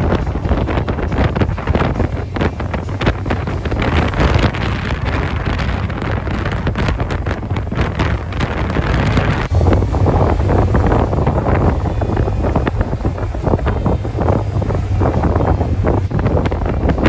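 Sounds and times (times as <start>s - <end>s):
motorcycle running: 0.0s - 17.0s
road noise: 0.0s - 17.0s
wind buffeting microphone: 0.0s - 17.0s.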